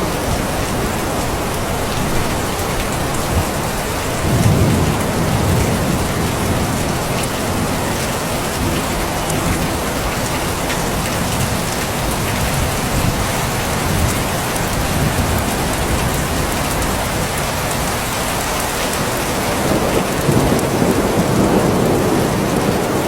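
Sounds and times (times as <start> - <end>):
low thunder rumble: 0.0 - 17.8, 19.5 - 23.0
steady rain falling: 0.0 - 23.0.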